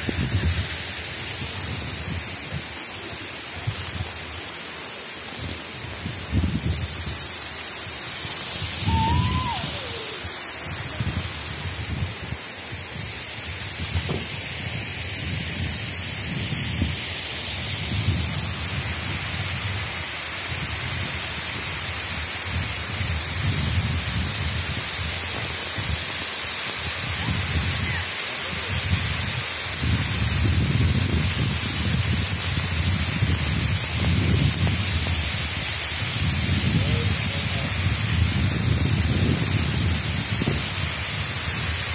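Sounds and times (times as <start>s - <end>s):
waterfall roaring over rock: 0.0s - 41.9s.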